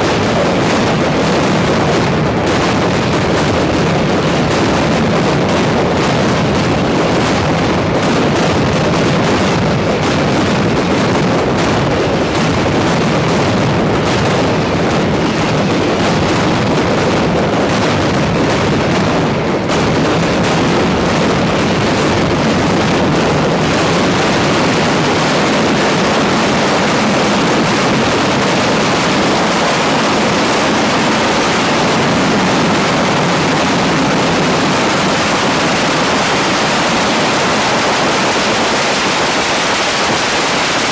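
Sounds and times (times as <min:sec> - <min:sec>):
firecrackers barrage: 0:00.0 - 0:40.9.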